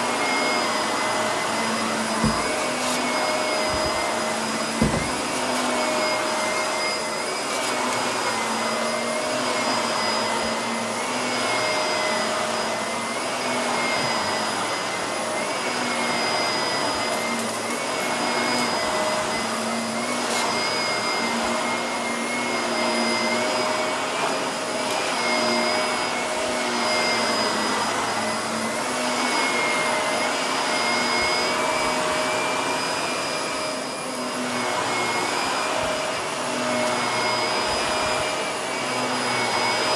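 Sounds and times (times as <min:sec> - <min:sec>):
vacuum cleaner running over carpet: 0:00.0 - 0:39.9.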